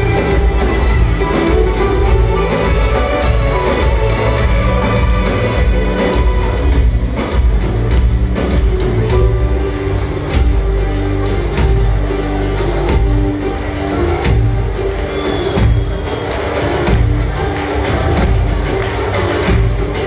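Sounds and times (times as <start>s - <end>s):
live band playing through pa: 0.0s - 20.0s.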